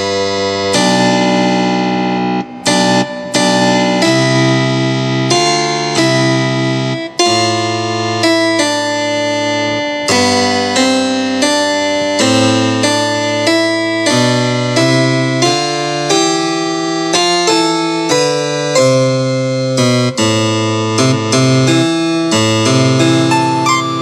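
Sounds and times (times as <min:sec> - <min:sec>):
digital piano chords: 0:00.0 - 0:24.0.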